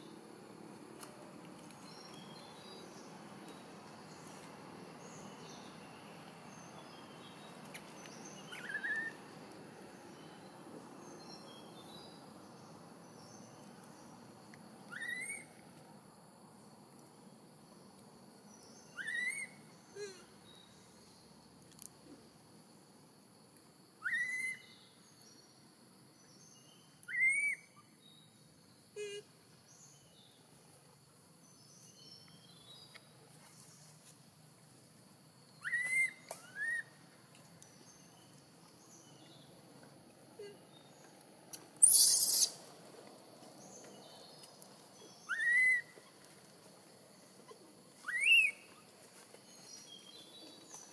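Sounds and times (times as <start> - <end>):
faint steady background noise: 0.0 - 50.9
insects humming: 0.0 - 50.9.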